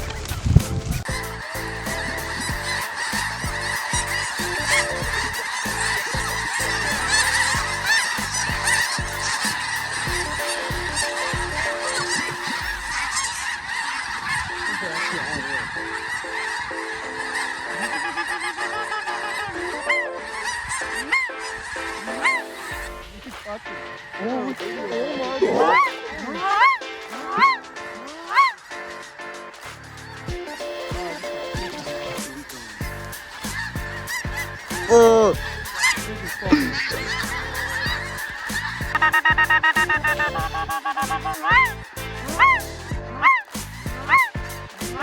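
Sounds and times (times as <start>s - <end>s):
flock of geese honking: 1.1s - 22.7s, 24.2s - 28.7s, 30.4s - 45.0s.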